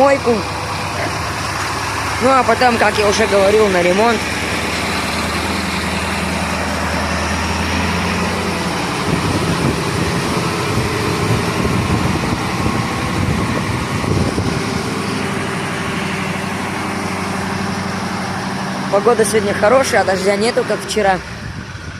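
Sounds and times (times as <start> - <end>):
diesel truck engine idling: 0.0 - 21.9.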